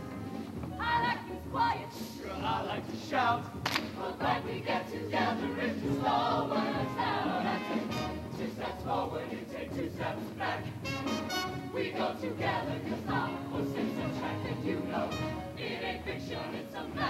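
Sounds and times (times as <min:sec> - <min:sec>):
choir singing: 0:01.0 - 0:17.0.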